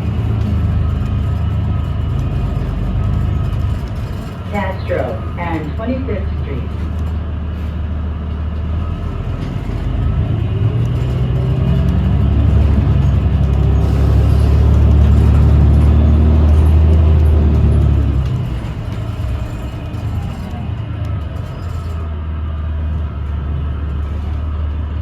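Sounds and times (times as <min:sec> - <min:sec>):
bus drive drone and whine: 0:00.0 - 0:25.0.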